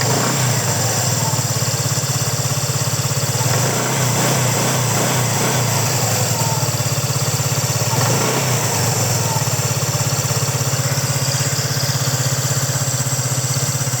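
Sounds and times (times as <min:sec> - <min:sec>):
scooter engine idling: 0:00.0 - 0:14.0.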